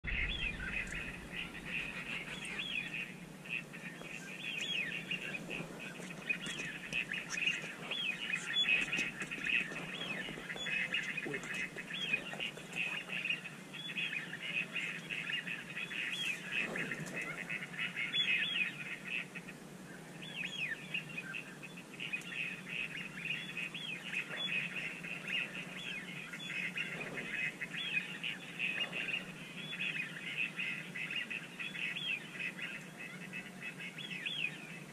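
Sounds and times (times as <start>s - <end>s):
ducks calling: 0.0s - 19.6s, 20.7s - 34.9s
steady low hum: 0.0s - 31.0s.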